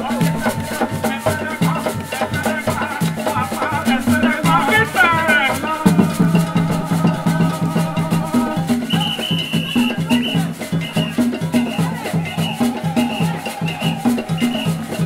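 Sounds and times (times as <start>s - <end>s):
hand drums and shakers: 0.0s - 15.0s
voices singing: 0.0s - 15.0s.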